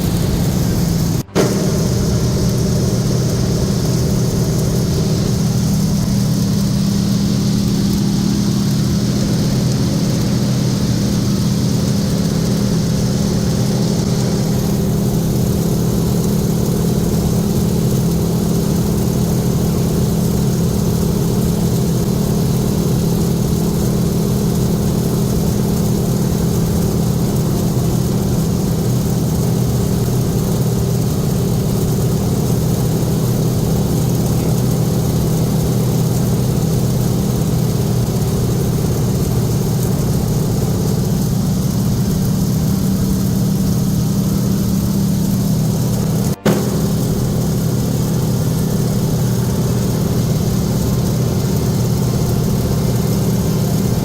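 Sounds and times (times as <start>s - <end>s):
hiss of rushing air: 0.0s - 54.0s
radial aircraft engine and propeller: 0.0s - 54.0s.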